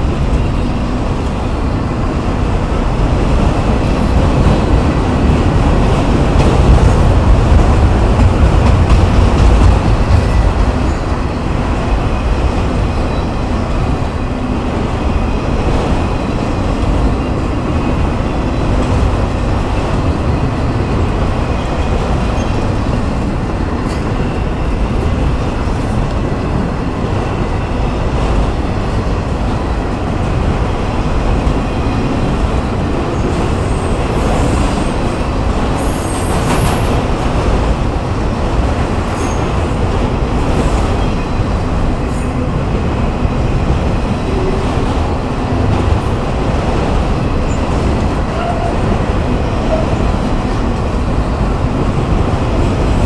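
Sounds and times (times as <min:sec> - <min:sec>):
freight cars rumbling and rattling: 0:00.0 - 0:53.0.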